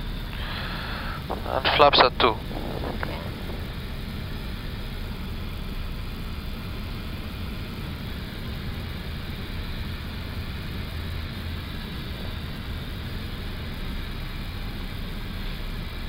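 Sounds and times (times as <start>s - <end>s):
cockpit hiss: 0.0s - 15.2s
airflow and engine rumble: 0.0s - 16.0s.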